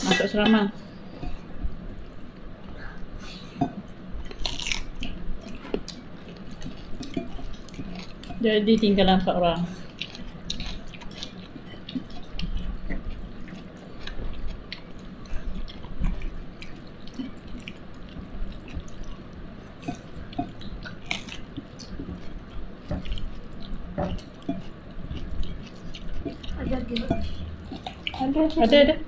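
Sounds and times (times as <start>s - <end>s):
person chewing food: 0.8s - 9.0s, 9.7s - 28.7s.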